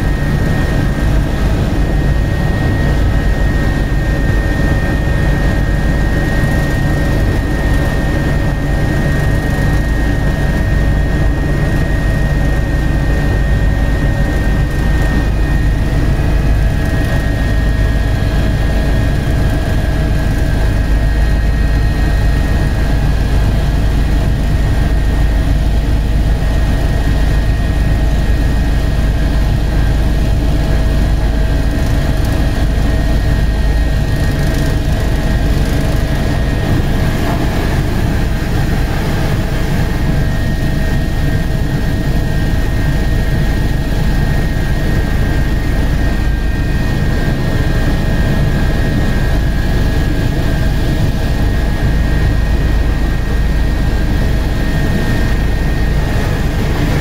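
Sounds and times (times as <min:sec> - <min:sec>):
constant whine: 0:00.0 - 0:57.0
helicopter rotor and engine rumble: 0:00.0 - 0:57.0.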